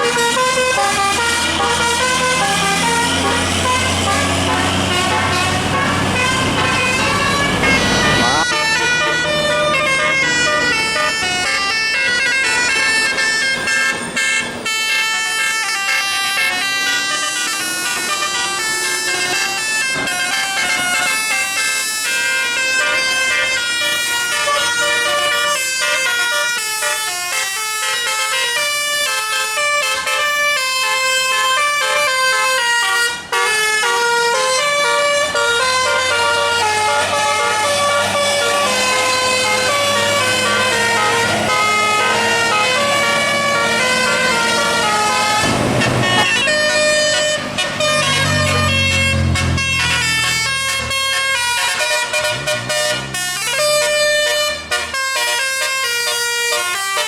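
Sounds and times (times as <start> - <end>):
bus musical air horn tune: 0.0 - 57.0.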